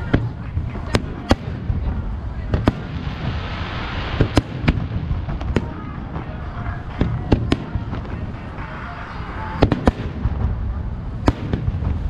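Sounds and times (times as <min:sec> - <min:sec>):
firework crackling and rumbling: 0:00.0 - 0:12.0
firework shells booming: 0:00.0 - 0:12.0.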